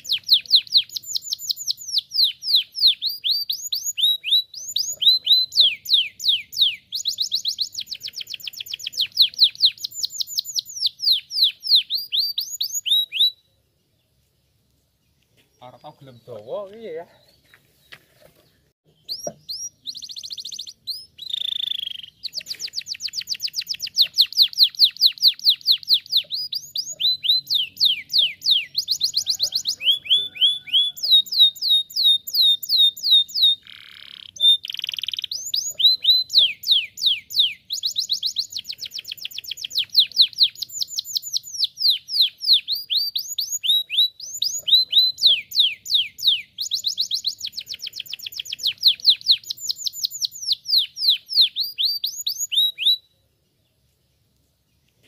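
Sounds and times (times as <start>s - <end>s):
canary singing trills: 0.0s - 14.1s, 15.0s - 53.5s.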